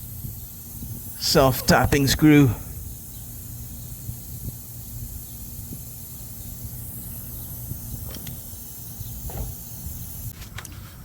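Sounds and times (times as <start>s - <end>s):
air hissing out of tire: 0.0s - 10.4s.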